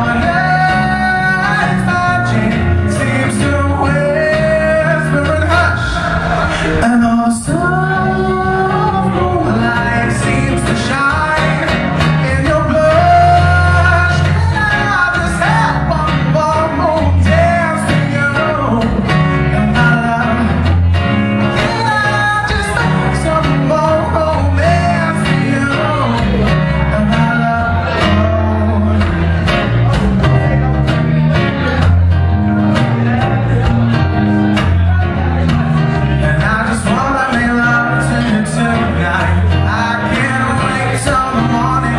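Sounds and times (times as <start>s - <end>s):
acoustic guitar: 0.0s - 41.9s
drums: 0.0s - 41.9s
electric bass: 0.0s - 41.9s
man singing: 0.0s - 41.9s.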